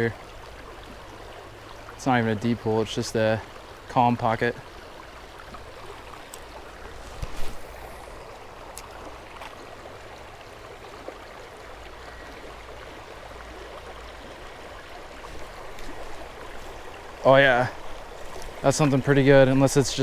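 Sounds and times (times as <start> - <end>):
creek water running over rapids: 0.0 - 20.0.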